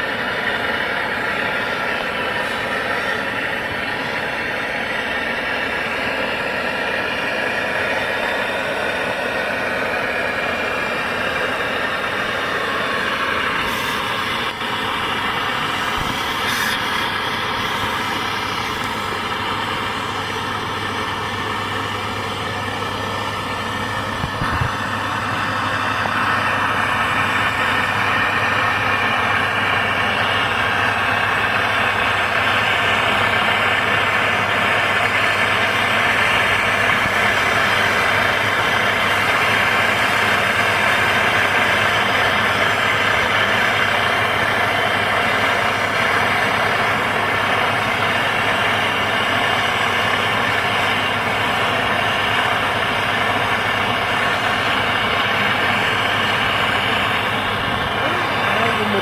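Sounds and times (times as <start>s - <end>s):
low machine hum: 0.0s - 59.0s
torch flame hissing: 0.0s - 59.0s.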